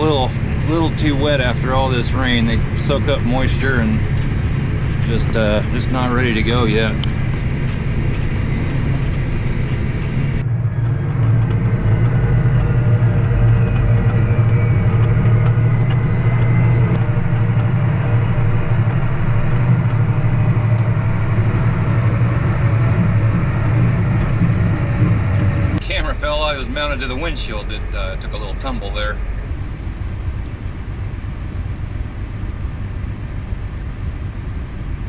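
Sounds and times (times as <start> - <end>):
diesel tractor engine drone: 0.0 - 35.0.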